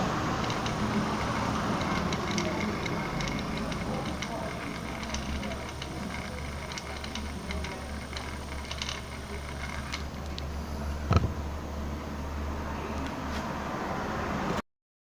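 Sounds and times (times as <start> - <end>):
electric fan motor hum: 0.0 - 14.5.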